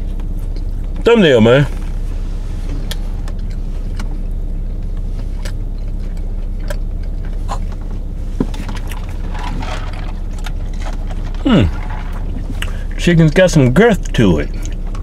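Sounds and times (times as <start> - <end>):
car engine idling: 0.0 - 15.0
people chewing: 2.6 - 15.0.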